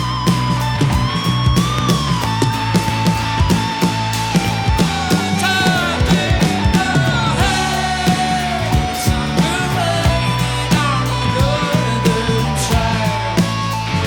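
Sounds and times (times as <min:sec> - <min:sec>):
bass: 0:00.0 - 0:14.0
drums: 0:00.0 - 0:14.0.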